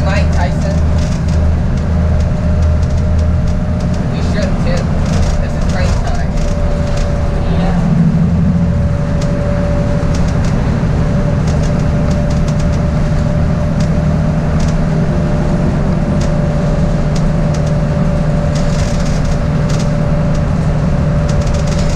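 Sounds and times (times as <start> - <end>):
bus engine and road drone: 0.0 - 21.9
cabin rattling and creaking: 0.0 - 21.9.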